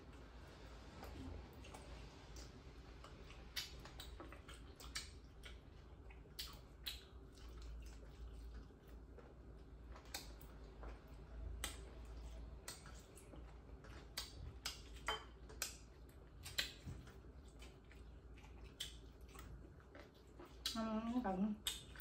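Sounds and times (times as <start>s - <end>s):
people chewing: 0.0s - 22.0s.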